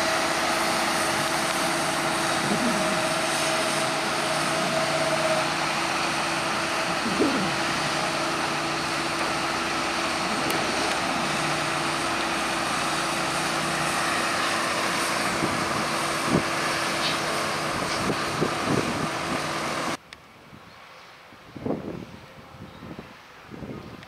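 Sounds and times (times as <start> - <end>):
diesel engines droning: 0.0 - 20.0.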